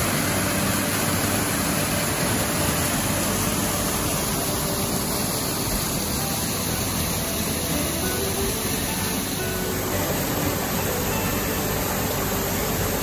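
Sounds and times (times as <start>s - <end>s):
waterfall splashing over rocks: 0.0s - 13.0s.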